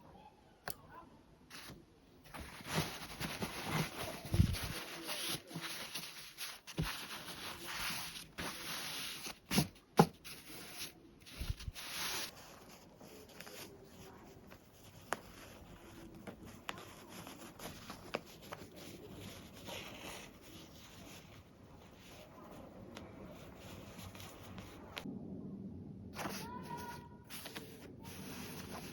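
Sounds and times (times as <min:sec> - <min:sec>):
fabric rustling: 0:01.5 - 0:25.1, 0:26.2 - 0:28.9.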